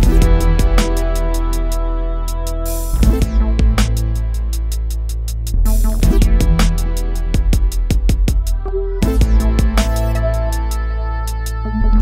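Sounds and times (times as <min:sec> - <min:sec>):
background music with guitar and beat: 0:00.0 - 0:11.6.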